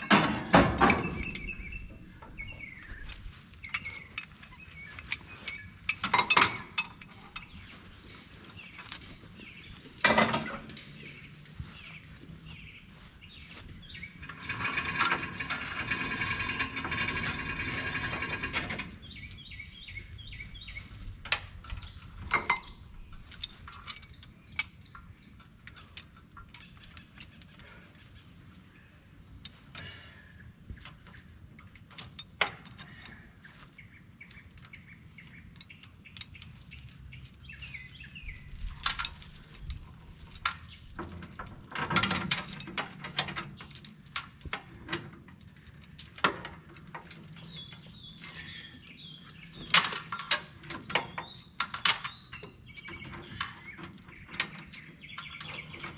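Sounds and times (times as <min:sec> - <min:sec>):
chain rattle: 0:00.0 - 0:28.4, 0:29.4 - 0:55.9
chains clinking and clanking: 0:00.0 - 0:28.4, 0:29.4 - 0:55.9.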